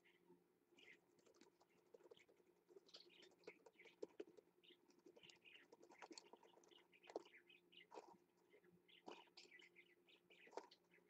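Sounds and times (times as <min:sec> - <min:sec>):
faint steady hum: 0:00.0 - 0:11.0
chicks chirping: 0:00.8 - 0:11.0
soft clicks and scratches in bedding: 0:00.8 - 0:11.0.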